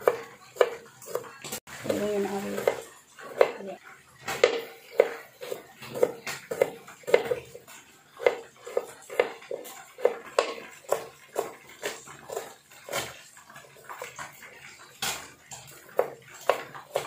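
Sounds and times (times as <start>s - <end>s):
knife chopping on cutting board: 0.0s - 3.6s, 4.2s - 13.3s, 15.0s - 17.0s.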